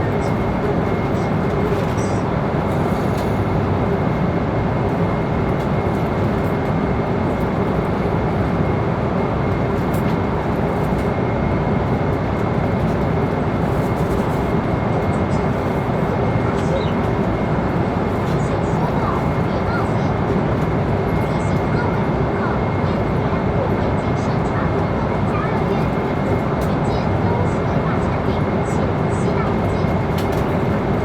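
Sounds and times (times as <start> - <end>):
engine and airflow rush: 0.0 - 31.0.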